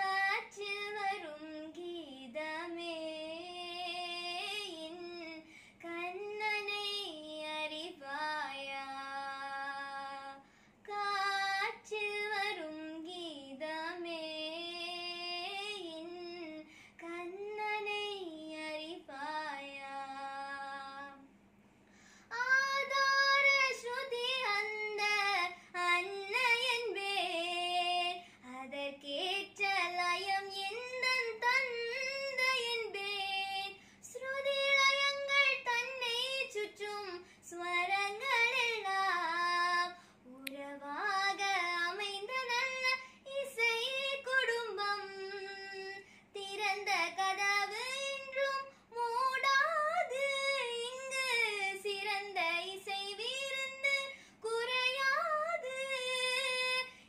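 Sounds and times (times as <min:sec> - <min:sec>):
girl singing unaccompanied: 0:00.0 - 0:21.3, 0:22.3 - 0:57.0.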